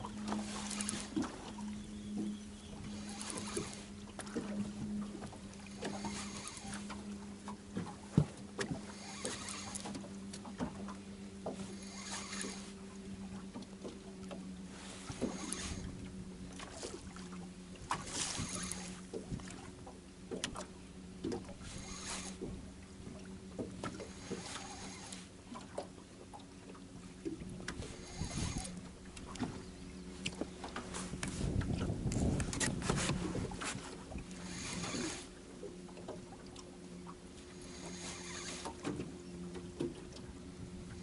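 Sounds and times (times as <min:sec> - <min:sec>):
low hum: 0:00.0 - 0:41.0
waves lapping against boat hull: 0:00.0 - 0:41.0.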